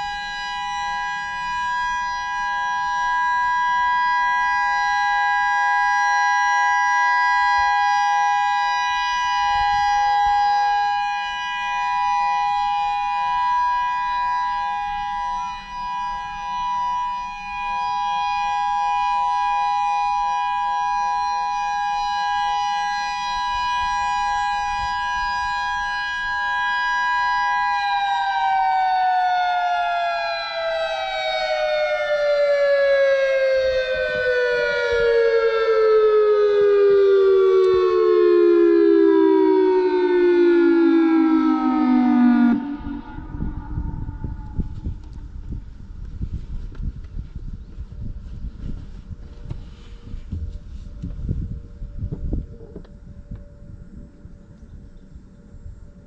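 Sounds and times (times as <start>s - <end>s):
two-note warning siren: 0.0s - 56.0s.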